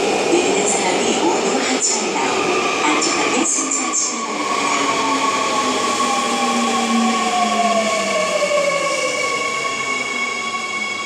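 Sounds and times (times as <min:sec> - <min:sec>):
electric train rolling: 0:00.0 - 0:11.0.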